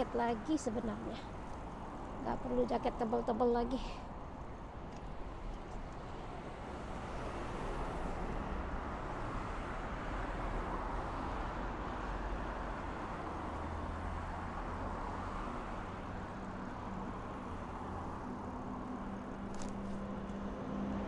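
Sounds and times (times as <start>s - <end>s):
passing cars and tyre noise: 0.0s - 3.0s, 4.0s - 21.0s.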